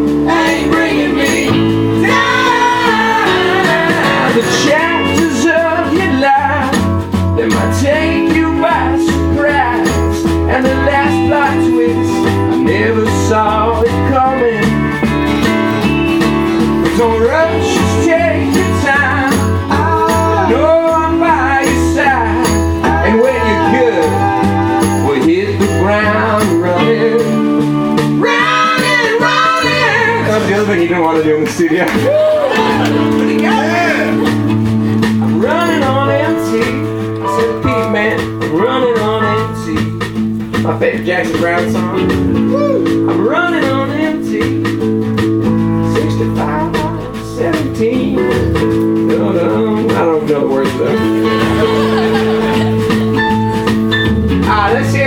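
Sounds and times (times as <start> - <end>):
guitar: 0.0 - 55.0
live rock band playing: 0.0 - 55.0
person singing: 0.2 - 15.2, 16.7 - 30.6, 35.2 - 40.1, 40.7 - 44.8, 45.8 - 53.5.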